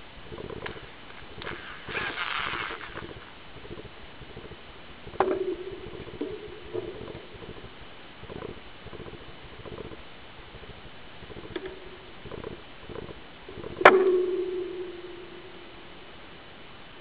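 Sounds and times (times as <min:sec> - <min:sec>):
short steady hum: 0:00.0 - 0:17.0.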